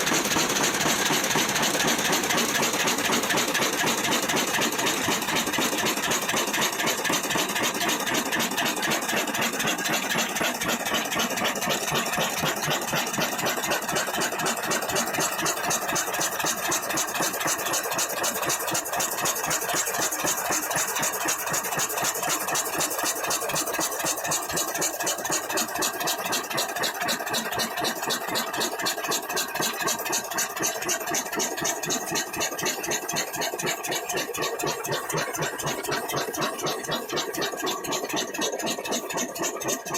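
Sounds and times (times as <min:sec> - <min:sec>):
stationary diesel engine running: 0:00.0 - 0:39.9.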